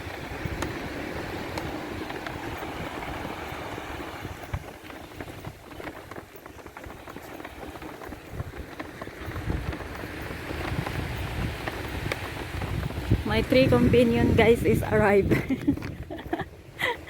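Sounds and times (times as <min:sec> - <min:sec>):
footsteps on sand: 0:00.0 - 0:17.0
wind buffeting microphone: 0:00.0 - 0:17.0.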